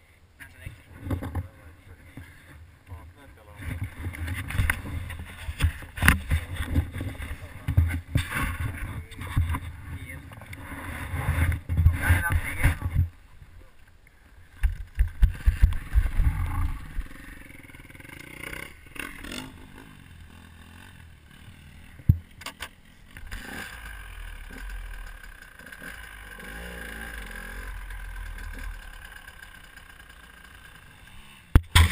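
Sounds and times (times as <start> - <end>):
motorbike engine at low revs: 0.8 - 2.8, 3.4 - 31.9.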